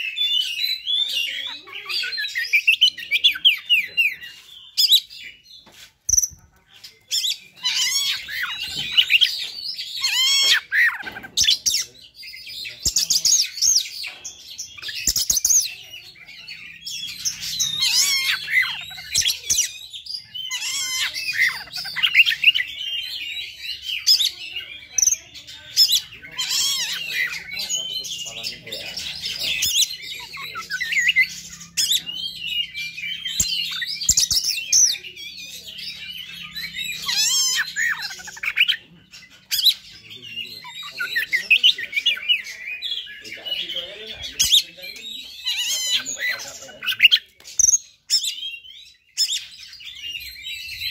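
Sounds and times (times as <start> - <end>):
bird singing varied song: 0.0 - 50.9.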